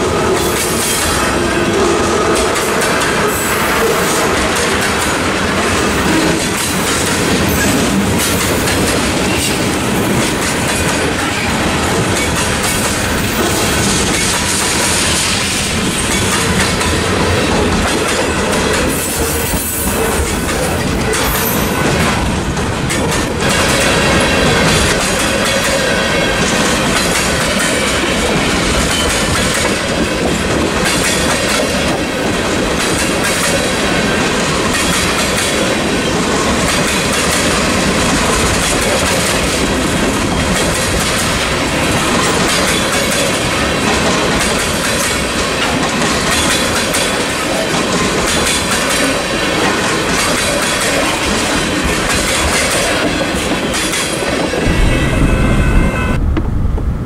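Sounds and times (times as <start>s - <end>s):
freight cars rumbling on rails: 0.0s - 57.0s.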